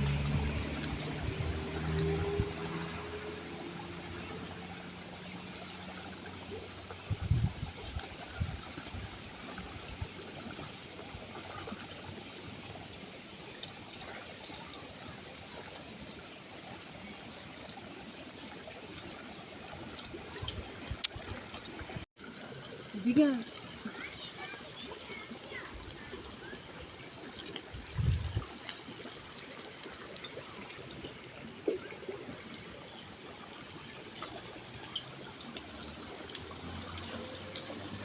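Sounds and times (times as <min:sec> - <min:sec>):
water trickling: 0:00.0 - 0:38.0.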